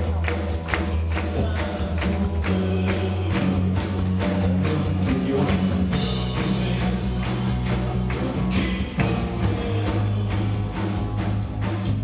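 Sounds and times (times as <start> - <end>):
drum kit beat: 0.0 - 12.0
live rock band playing: 0.0 - 12.0.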